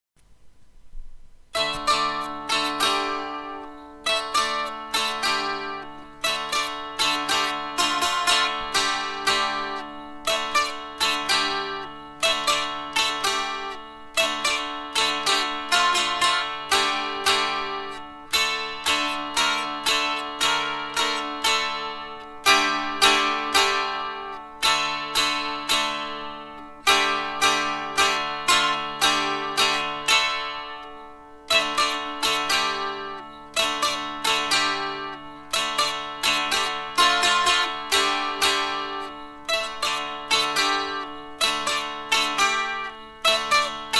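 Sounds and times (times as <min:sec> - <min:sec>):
dulcimer playing folk tune: 0:01.5 - 0:43.9.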